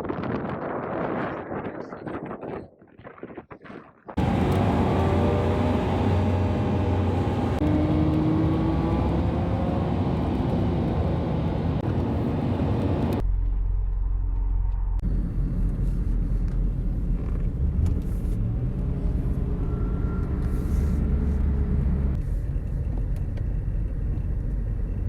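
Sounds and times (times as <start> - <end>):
road and wind noise: 0.0 - 25.0
car engine running: 4.2 - 25.0.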